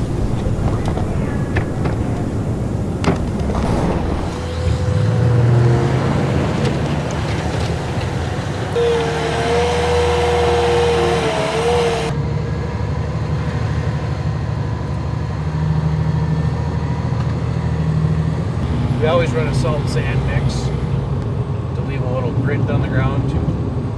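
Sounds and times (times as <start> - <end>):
wavering whine: 0.0 - 22.3
vehicle engines running: 0.0 - 23.9.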